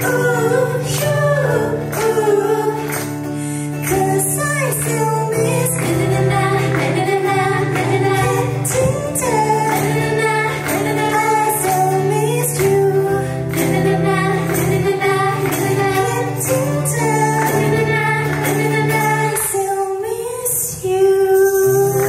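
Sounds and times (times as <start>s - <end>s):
strummed acoustic guitar: 0.0s - 20.2s
women singing: 0.0s - 22.0s.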